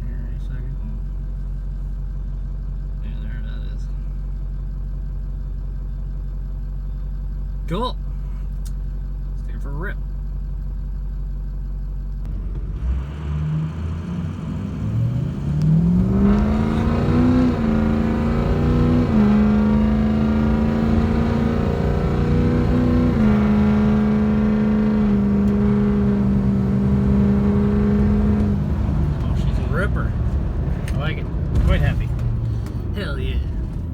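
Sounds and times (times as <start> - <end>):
diesel truck engine accelerating: 0.0 - 33.9.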